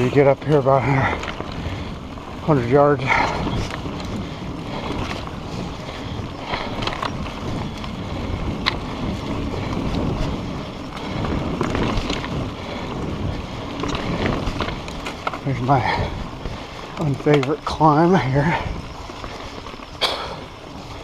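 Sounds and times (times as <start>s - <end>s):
bike clicks and rattles: 0.0s - 21.0s
tyre and wind noise: 0.0s - 21.0s.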